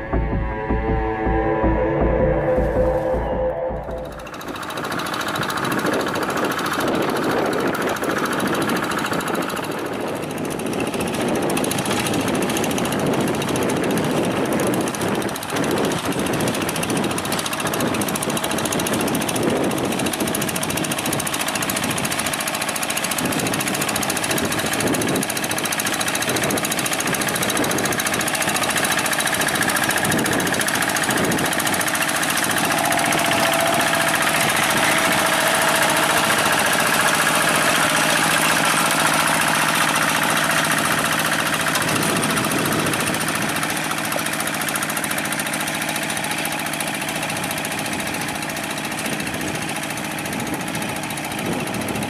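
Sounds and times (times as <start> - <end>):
diesel engine knocking steadily: 0.0 - 52.0.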